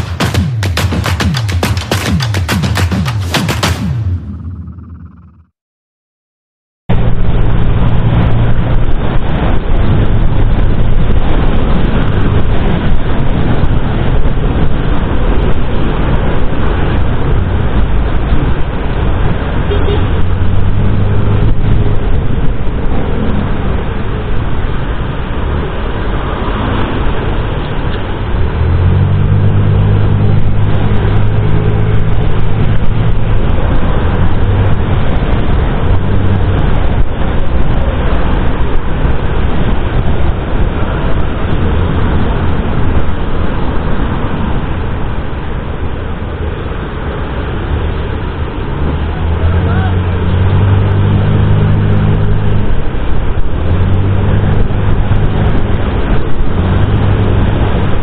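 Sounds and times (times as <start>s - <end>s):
surrounding car traffic: 0.0s - 5.5s, 6.9s - 58.0s
wind noise on microphone: 0.0s - 5.5s, 6.9s - 58.0s.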